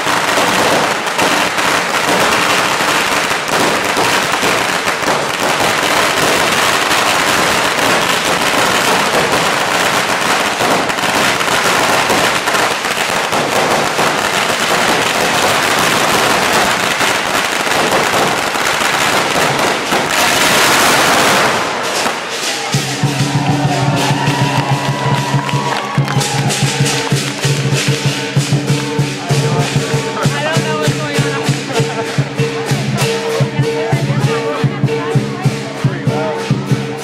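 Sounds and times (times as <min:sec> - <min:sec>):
firecrackers crackling: 0:00.0 - 0:37.0.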